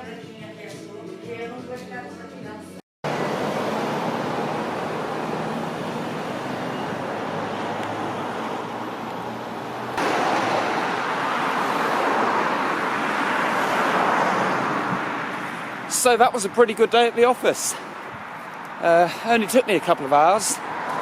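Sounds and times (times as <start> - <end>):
road traffic: 3.0 - 21.0.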